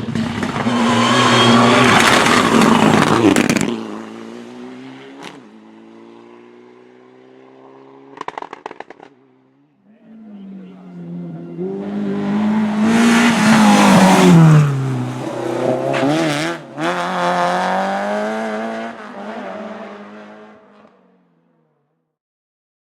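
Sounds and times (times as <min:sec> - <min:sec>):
rally car passing at speed: 0:00.0 - 0:09.0, 0:10.2 - 0:21.2.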